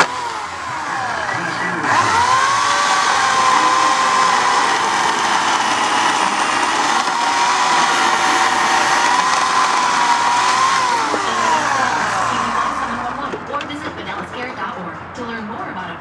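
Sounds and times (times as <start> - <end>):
electric chainsaw whining: 0.0 - 13.5.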